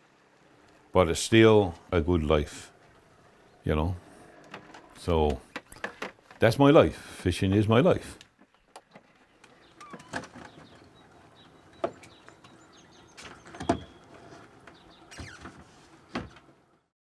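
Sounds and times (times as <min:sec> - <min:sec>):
faint outdoor background: 0:00.0 - 0:16.9.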